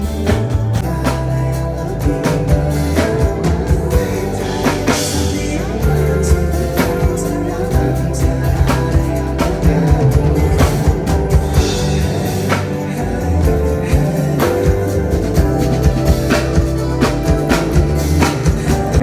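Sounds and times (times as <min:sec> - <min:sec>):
pop-rock song with drums: 0:00.0 - 0:19.0.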